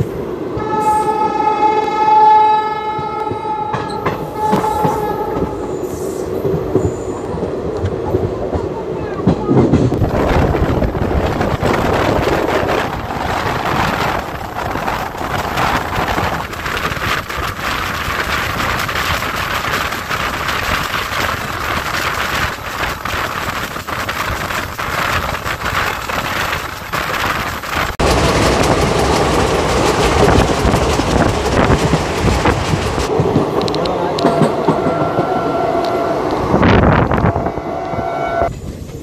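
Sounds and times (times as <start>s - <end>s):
train wheels rolling on rails: 0.0s - 39.0s
rush of wind: 5.3s - 39.0s.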